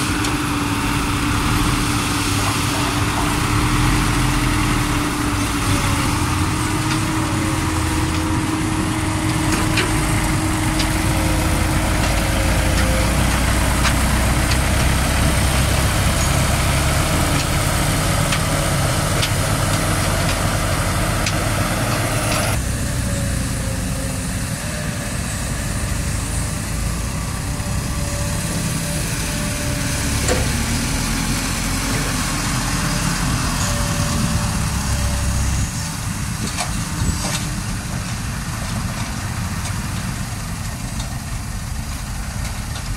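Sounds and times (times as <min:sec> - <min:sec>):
dump truck diesel engine: 0:00.0 - 0:42.9.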